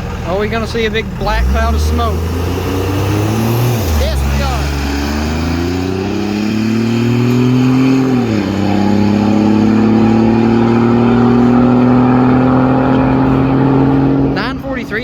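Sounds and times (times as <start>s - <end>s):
diesel truck engine accelerating: 0.0s - 15.0s.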